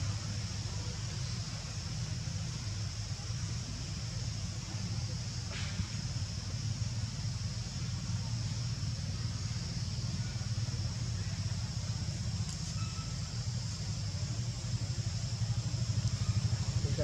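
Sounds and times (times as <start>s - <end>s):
constant high hiss: 0.0s - 17.0s
low engine-like hum: 0.0s - 17.0s.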